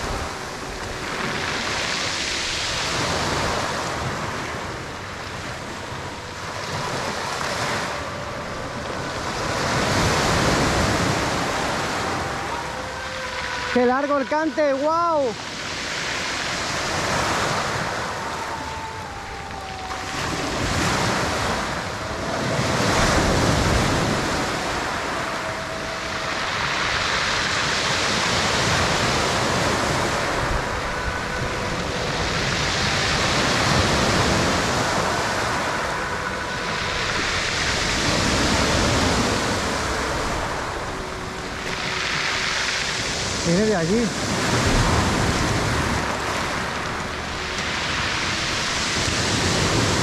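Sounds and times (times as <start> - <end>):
faint drawn-out tones: 0.0 - 50.0
waves washing over pebbles: 0.0 - 50.0.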